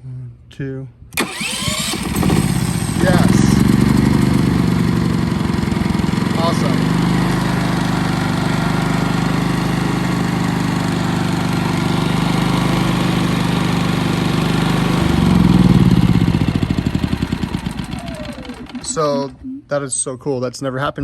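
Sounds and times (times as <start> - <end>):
generator engine running: 1.2 - 19.5.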